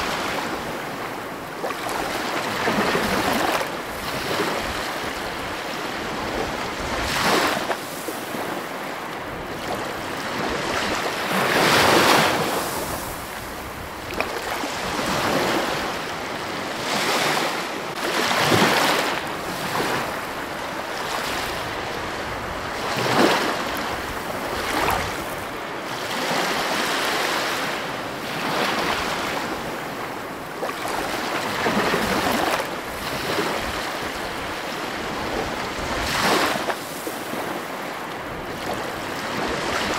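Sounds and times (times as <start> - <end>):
ocean waves crashing: 0.0 - 39.9.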